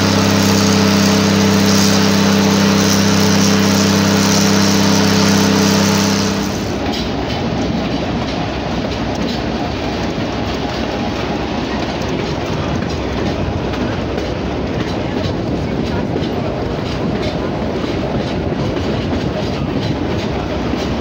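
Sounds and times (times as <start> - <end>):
locomotive diesel engine drone: 0.0 - 21.0
train wheels rolling over rails: 0.0 - 21.0.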